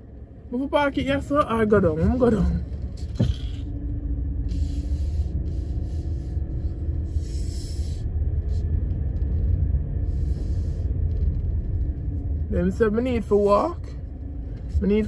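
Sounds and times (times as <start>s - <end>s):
car driving slowly from inside: 0.0s - 15.0s.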